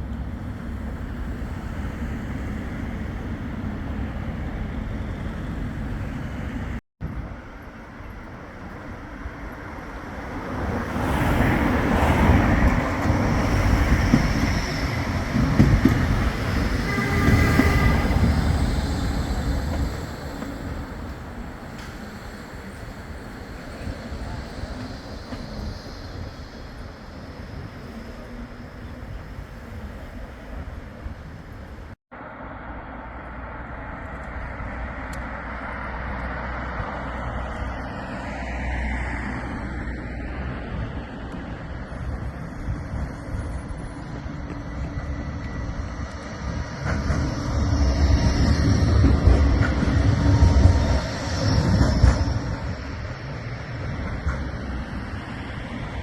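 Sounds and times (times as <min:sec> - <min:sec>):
tram running rumble: 0:00.0 - 0:56.0.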